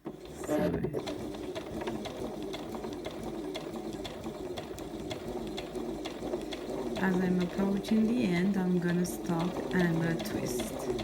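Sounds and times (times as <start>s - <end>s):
sewing machine running: 0.0s - 11.0s.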